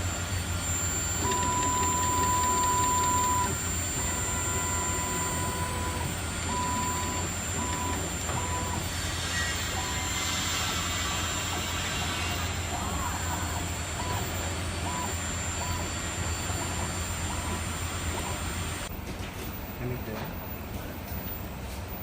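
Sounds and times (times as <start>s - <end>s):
high steady whine: 0.0s - 22.0s
low machine hum: 0.0s - 22.0s.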